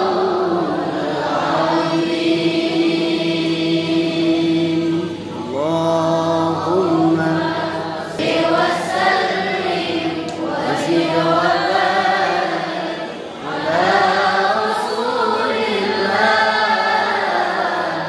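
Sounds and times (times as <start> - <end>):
group chanting in unison: 0.0 - 18.0.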